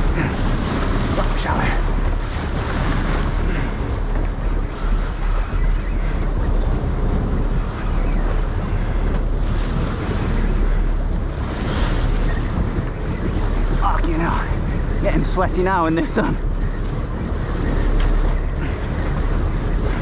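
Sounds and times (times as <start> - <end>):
steady low rumble: 0.0 - 20.0
water splashing along boat hull: 0.0 - 20.0
wind buffeting microphone: 0.0 - 20.0.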